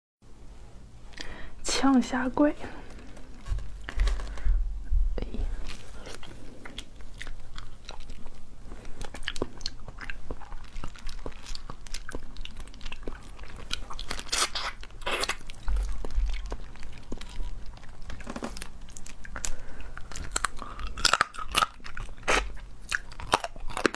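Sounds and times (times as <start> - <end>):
crab shells cracking and crunching: 2.9 - 4.5, 5.7 - 23.9.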